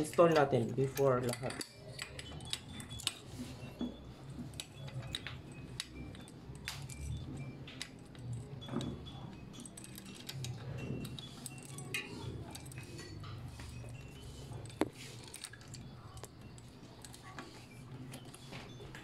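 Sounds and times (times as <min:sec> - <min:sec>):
metal hardware clicking and clinking: 0:00.0 - 0:19.0.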